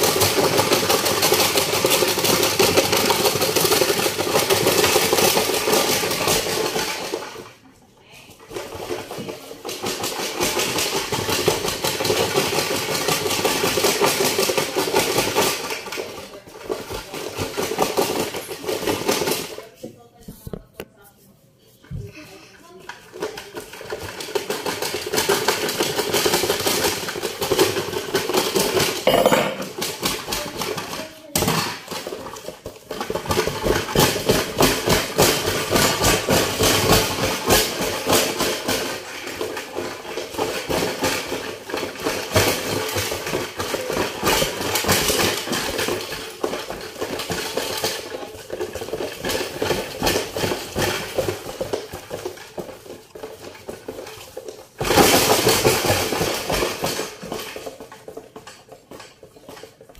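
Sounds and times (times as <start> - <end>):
cardboard box rattling on floor: 8.4 - 20.7, 22.9 - 59.9.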